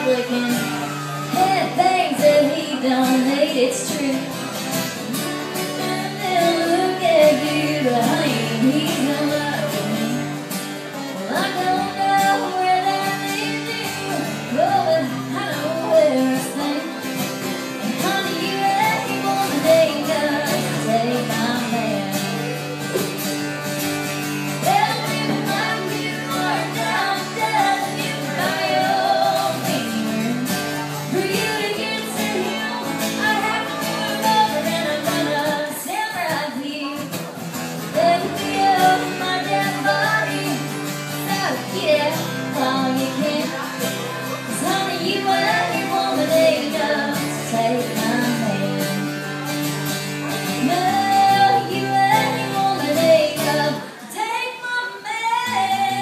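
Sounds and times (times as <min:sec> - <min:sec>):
woman singing: 0:00.0 - 0:10.5, 0:11.2 - 0:22.7, 0:24.5 - 0:37.2, 0:37.8 - 0:49.3, 0:50.4 - 0:56.0
acoustic guitars strummed: 0:00.0 - 0:54.2.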